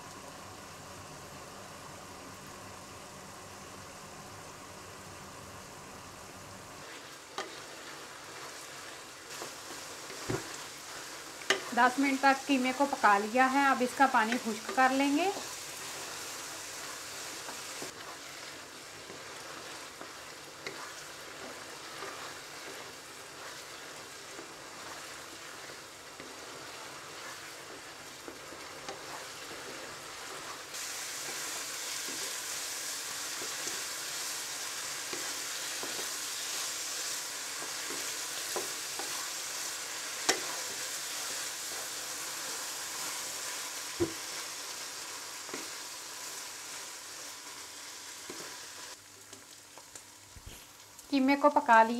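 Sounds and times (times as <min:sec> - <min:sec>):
meat sizzling in a frying pan: 0:06.6 - 0:51.9
wooden spatula scraping a pan: 0:06.8 - 0:48.9.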